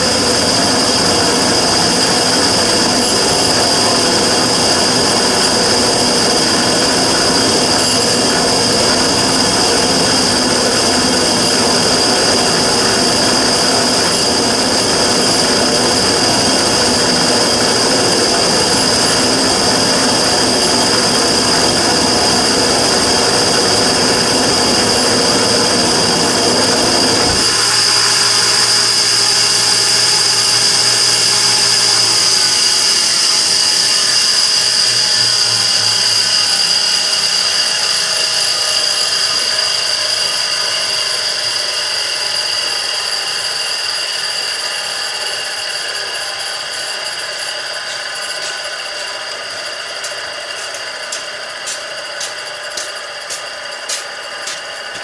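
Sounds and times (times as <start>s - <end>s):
burner high-pitched whine: 0.0s - 55.0s
loud rough burner noise: 0.0s - 55.0s.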